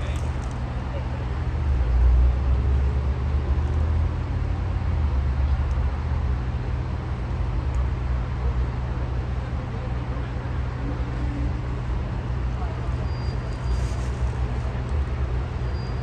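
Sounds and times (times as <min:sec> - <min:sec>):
low rumble of passing vehicles: 0:00.0 - 0:16.0.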